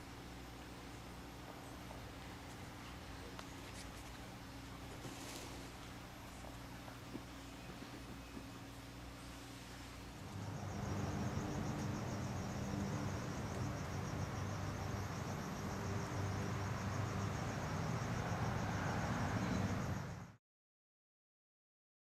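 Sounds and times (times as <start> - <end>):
crickets chirping: 0.0 - 20.4
steady low hum: 0.0 - 20.4.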